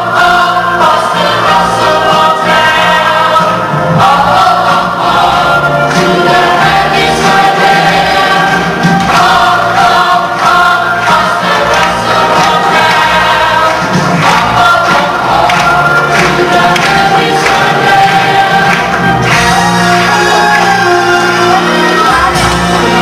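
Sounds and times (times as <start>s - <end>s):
chorus of voices singing: 0.0s - 23.0s
loud instrumental accompaniment: 0.0s - 23.0s.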